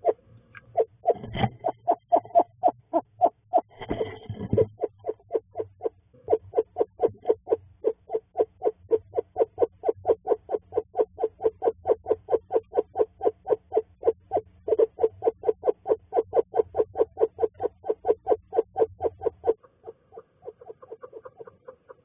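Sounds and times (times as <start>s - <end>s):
owl trilling hoots: 0.0s - 22.0s.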